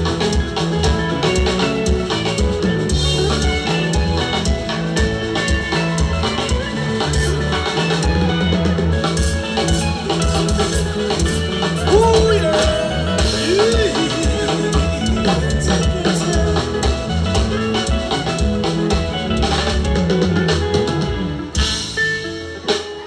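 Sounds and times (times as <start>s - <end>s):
bass line: 0.0s - 22.6s
drum kit beat: 0.0s - 23.0s
live band playing dance music: 0.0s - 23.0s.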